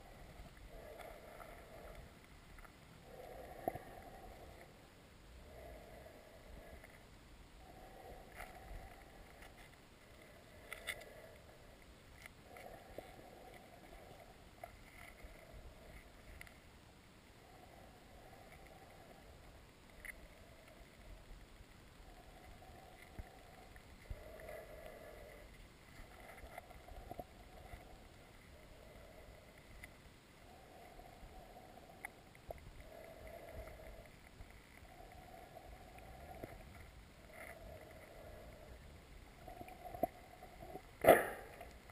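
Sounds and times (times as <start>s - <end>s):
small clicks and ticks: 0.0s - 41.9s.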